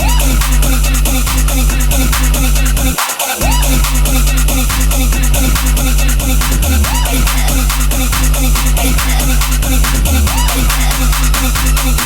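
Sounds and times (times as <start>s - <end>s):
electronic club music: 0.0s - 12.0s.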